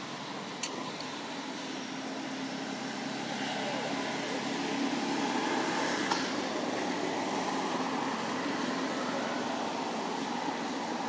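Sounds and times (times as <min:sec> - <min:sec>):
outdoor background hum and hiss: 0:00.0 - 0:11.0.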